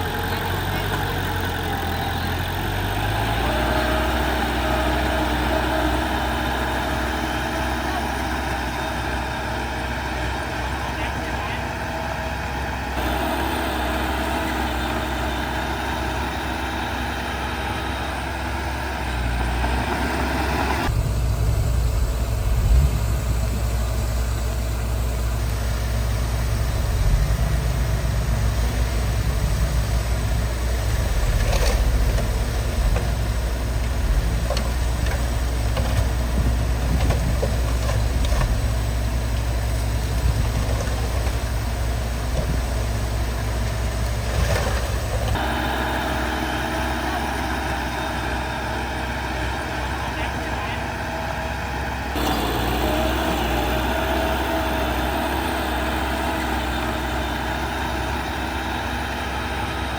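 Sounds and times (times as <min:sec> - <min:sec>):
diesel earthmoving machinery running: 0:00.0 - 0:59.9.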